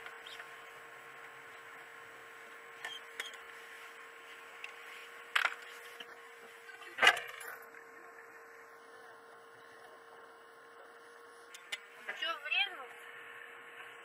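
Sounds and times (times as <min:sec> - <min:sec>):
recording hiss and hum: 0:00.0 - 0:14.0.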